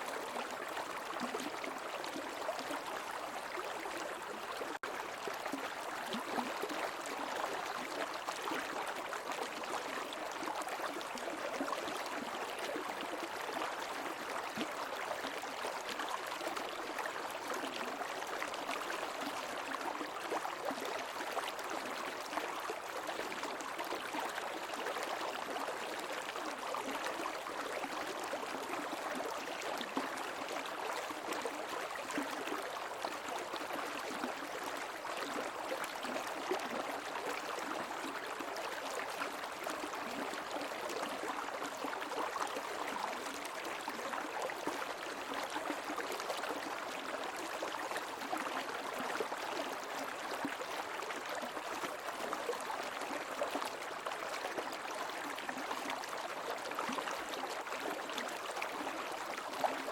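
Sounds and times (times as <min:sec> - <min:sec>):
creek water gurgling over stones: 0:00.0 - 0:59.9.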